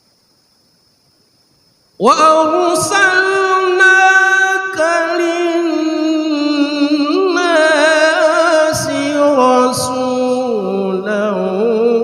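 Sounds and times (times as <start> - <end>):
man reciting melodically: 2.0 - 12.0.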